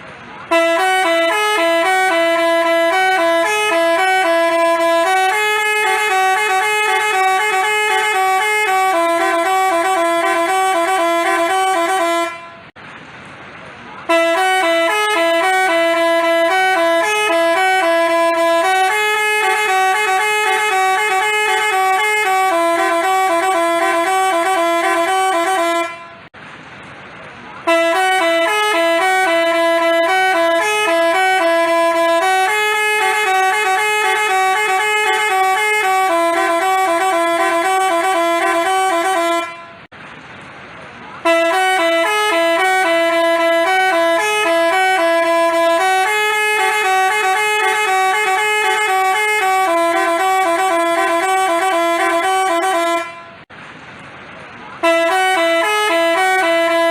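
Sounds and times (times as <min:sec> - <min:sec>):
bus horn playing a melody: 0:00.3 - 0:12.8, 0:14.0 - 0:26.4, 0:27.6 - 0:39.9, 0:41.2 - 0:53.5, 0:54.8 - 0:56.9.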